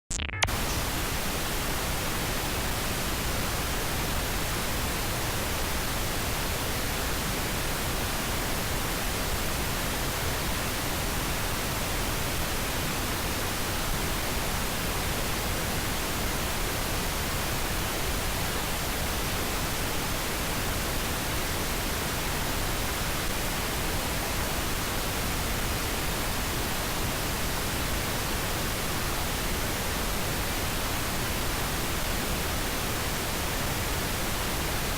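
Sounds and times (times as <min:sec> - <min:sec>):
pink noise hiss: 0:00.1 - 0:34.9.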